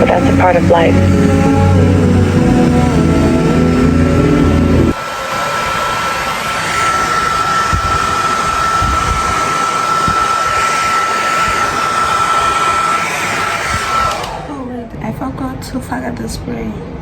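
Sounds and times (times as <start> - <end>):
hair dryer blowing: 0.0 - 14.8.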